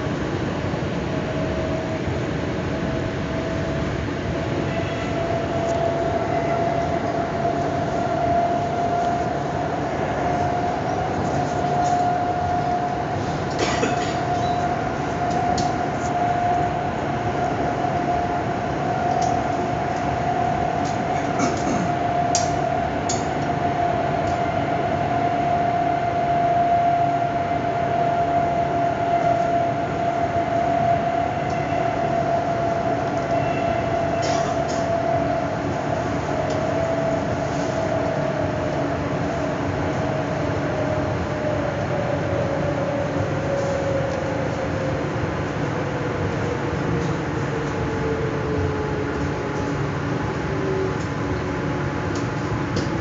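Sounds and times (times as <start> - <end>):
train running noise: 0.0 - 53.0.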